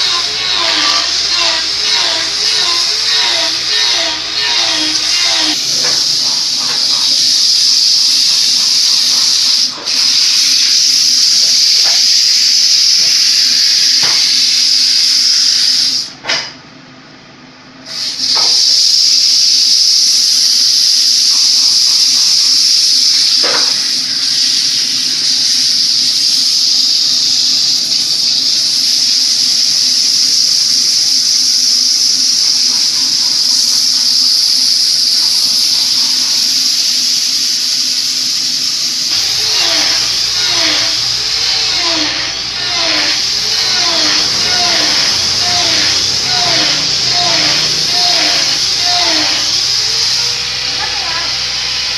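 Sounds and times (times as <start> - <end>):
loud steady hiss: 0.0 - 16.3, 17.8 - 51.9.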